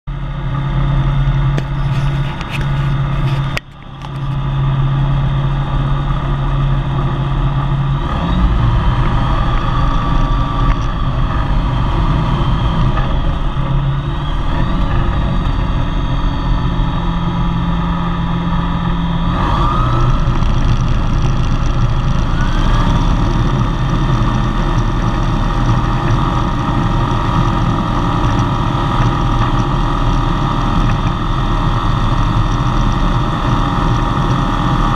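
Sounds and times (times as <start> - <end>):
light aircraft engine and propeller: 0.1 - 34.9.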